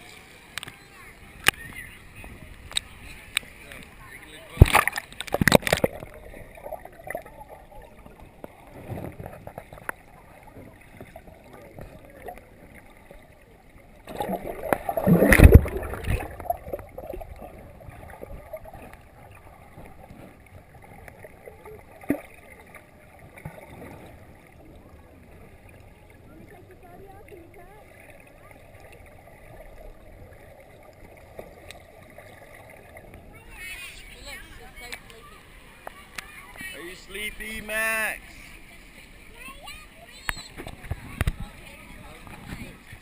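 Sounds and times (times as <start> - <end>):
water lapping: 0.0 - 43.0
water splashing and sloshing: 0.0 - 43.0.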